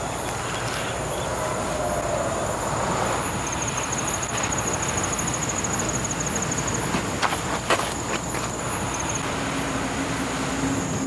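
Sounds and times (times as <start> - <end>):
steady outdoor rushing noise: 0.0 - 11.0.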